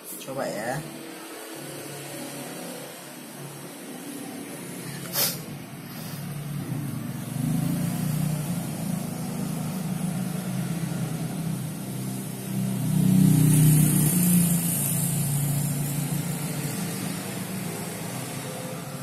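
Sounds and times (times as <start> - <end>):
engine running with low hum: 1.6 - 19.0.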